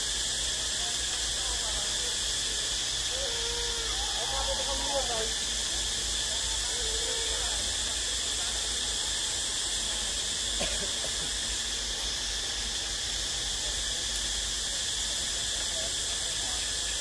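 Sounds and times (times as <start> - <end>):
forest insects chorus: 0.0 - 17.0.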